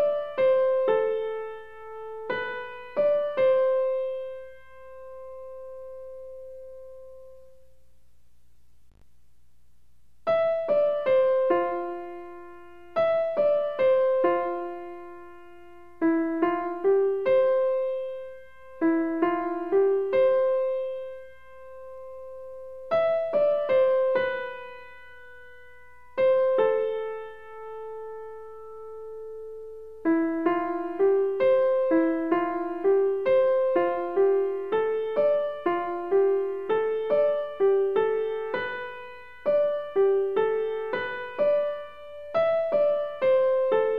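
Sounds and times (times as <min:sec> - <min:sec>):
gentle piano melody: 0:00.0 - 0:07.8, 0:10.3 - 0:43.9.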